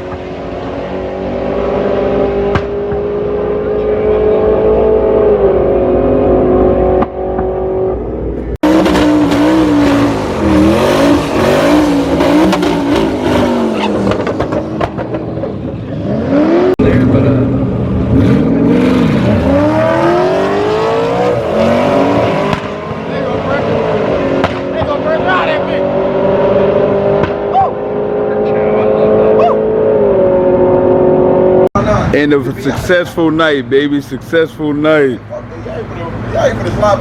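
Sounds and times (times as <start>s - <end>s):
car engines revving and accelerating: 0.0s - 37.0s.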